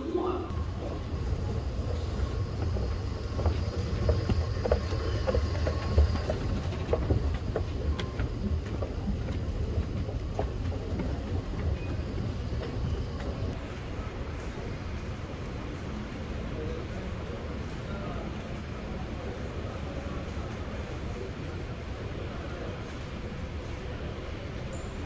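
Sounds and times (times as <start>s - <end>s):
metro train rumble: 0.0s - 25.0s.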